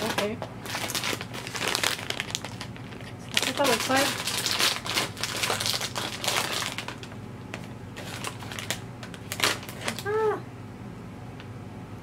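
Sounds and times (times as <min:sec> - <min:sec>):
snack bag crinkling: 0:00.0 - 0:10.1.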